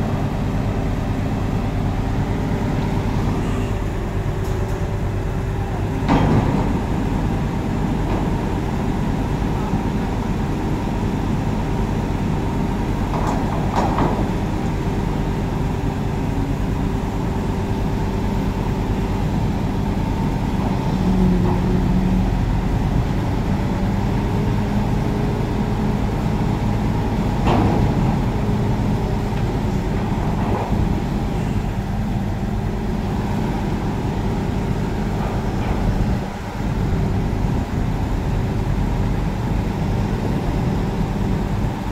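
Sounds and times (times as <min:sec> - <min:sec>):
diesel engines droning: 0:00.0 - 0:41.9.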